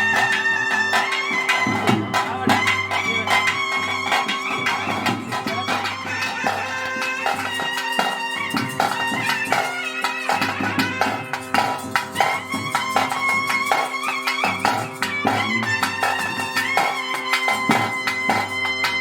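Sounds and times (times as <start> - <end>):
drum strokes: 0.0 - 19.0
reed pipe melody: 0.0 - 19.0.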